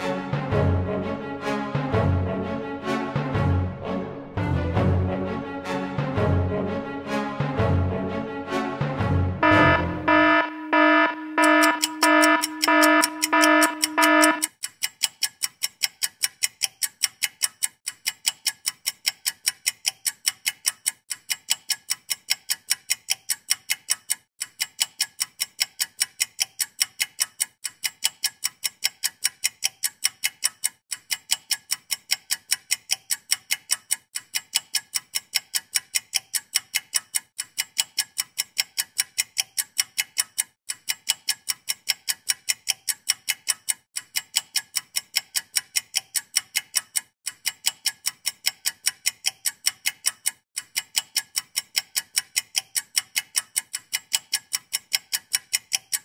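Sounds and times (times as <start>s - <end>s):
clock ticking: 9.4s - 56.0s.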